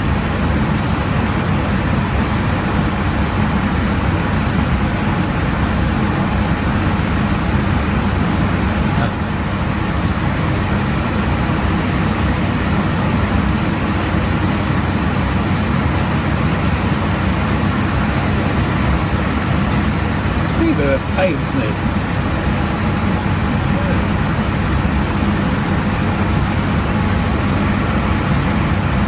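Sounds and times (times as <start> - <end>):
jet cockpit airflow and engine: 0.0 - 29.0.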